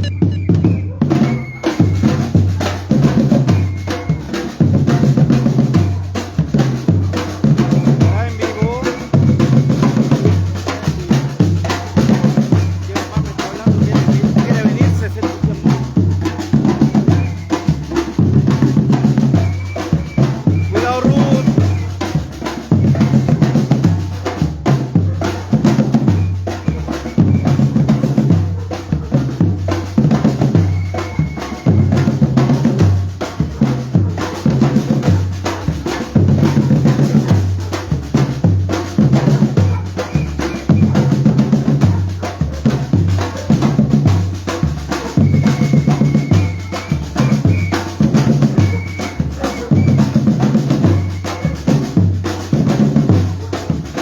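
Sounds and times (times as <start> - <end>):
drum group playing rhythm: 0.0 - 54.0.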